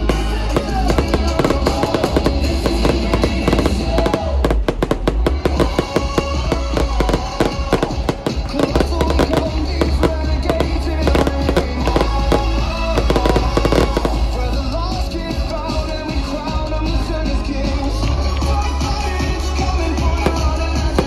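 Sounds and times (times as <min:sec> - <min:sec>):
fireworks bursting and crackling: 0:00.0 - 0:15.2, 0:18.2 - 0:21.0
pop-rock music with heavy bass: 0:00.0 - 0:21.0.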